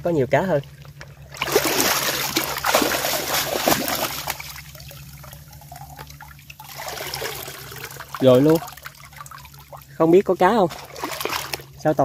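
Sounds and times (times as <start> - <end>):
water trickling and dribbling: 0.0 - 12.0
water splashing: 0.3 - 12.0.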